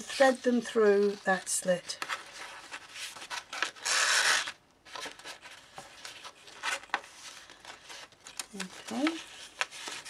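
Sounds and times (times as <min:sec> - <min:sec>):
paper and card rustling: 0:00.0 - 0:10.0.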